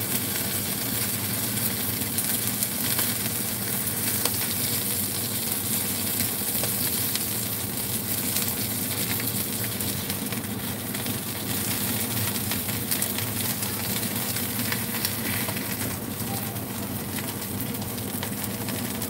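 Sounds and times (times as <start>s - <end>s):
fish sizzling in a wok: 0.0s - 19.0s
steady low hum: 0.0s - 19.0s.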